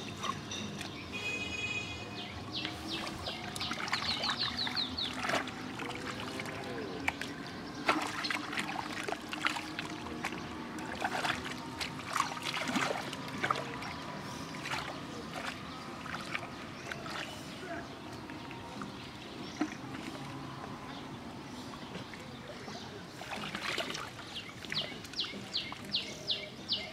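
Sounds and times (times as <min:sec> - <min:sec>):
water splashing and sloshing: 0:00.0 - 0:26.9.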